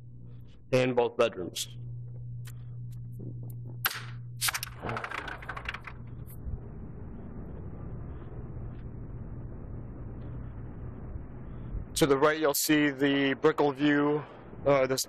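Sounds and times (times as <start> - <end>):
outdoor city noise: 1.6 - 15.0.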